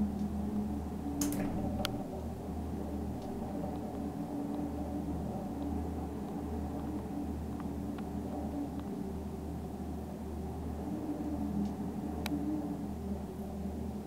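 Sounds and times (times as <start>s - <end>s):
cable car cabin hum: 0.0s - 14.0s.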